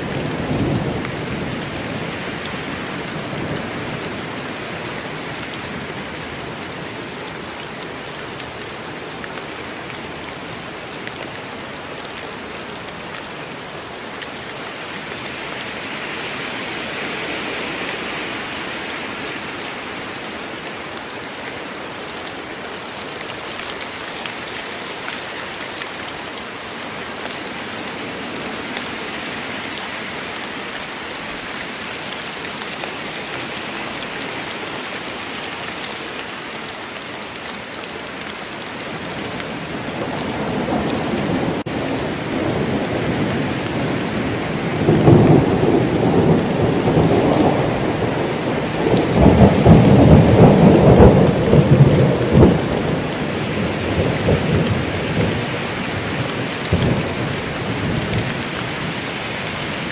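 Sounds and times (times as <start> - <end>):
heavy rain in woodland: 0.0 - 59.9.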